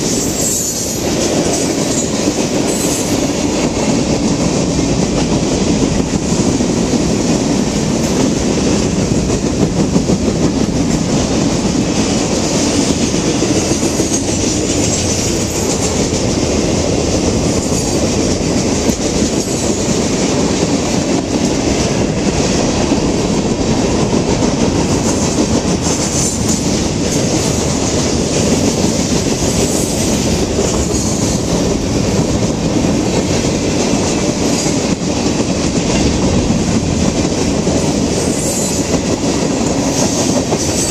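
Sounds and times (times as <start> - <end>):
steel train wheels on rails: 0.0 - 40.9.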